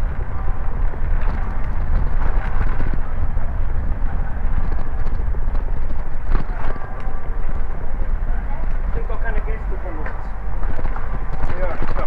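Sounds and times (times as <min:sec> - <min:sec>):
bicycle rattling over brick paving: 0:00.0 - 0:12.0
wind buffeting microphone: 0:00.0 - 0:12.0.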